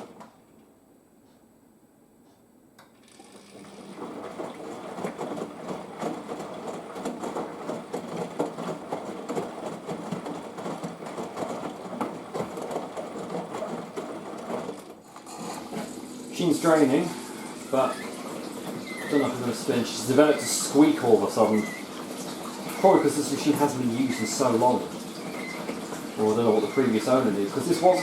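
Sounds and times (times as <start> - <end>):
drain pump rattling: 3.2 - 28.0.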